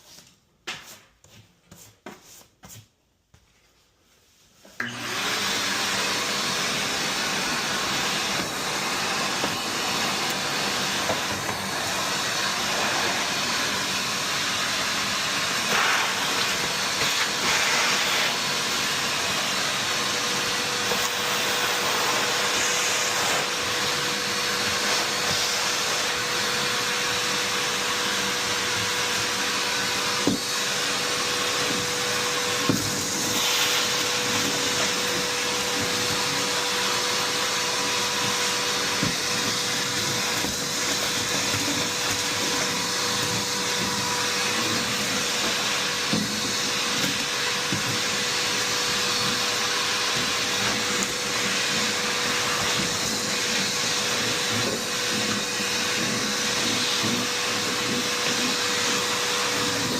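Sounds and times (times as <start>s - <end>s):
vacuum machine hissing: 4.7s - 59.9s.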